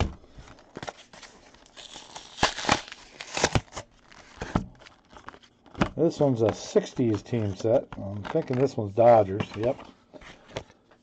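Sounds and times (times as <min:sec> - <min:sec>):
cards and plastic wrapper rustling: 0:00.3 - 0:11.0.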